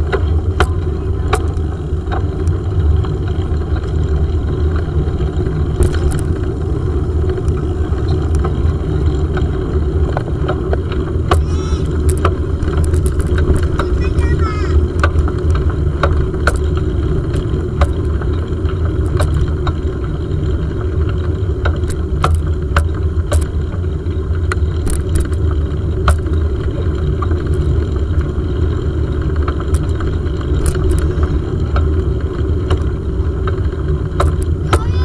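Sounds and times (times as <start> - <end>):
bicycle riding rumble: 0.0 - 35.0
sharp clicks and rattles: 0.0 - 35.0.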